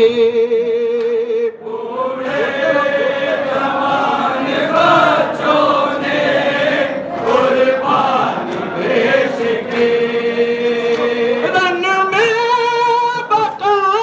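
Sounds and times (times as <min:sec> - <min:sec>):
men chanting in unison: 0:01.6 - 0:14.0.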